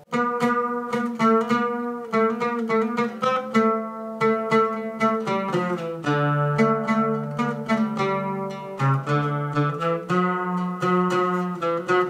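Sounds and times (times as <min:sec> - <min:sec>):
oud melody: 0:00.0 - 0:12.0.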